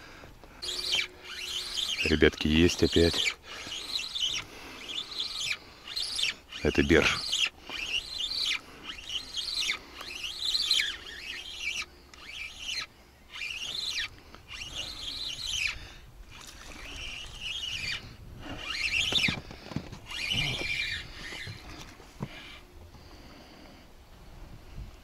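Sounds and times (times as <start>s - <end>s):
fishing reel squeaky whir: 0.0s - 23.8s.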